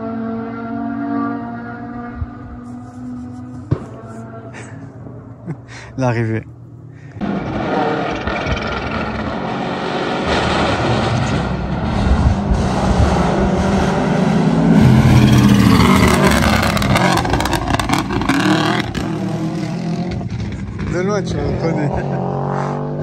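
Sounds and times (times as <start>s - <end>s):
rally car passing at speed: 0.0s - 5.2s, 7.2s - 23.0s.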